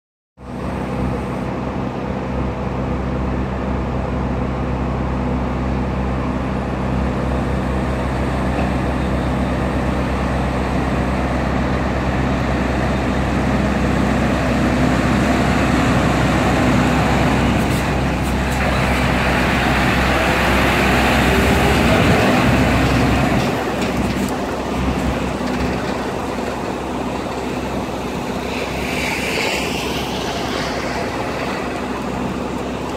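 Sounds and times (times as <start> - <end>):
diesel truck engine accelerating: 0.4 - 32.9.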